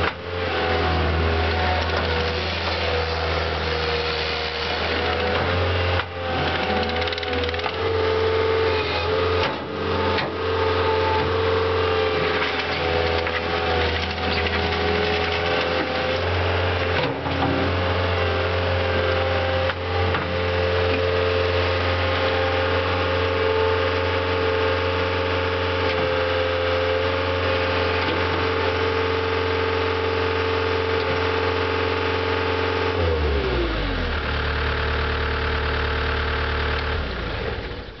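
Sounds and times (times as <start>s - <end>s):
diesel engine running: 0.0s - 25.8s, 26.9s - 38.0s.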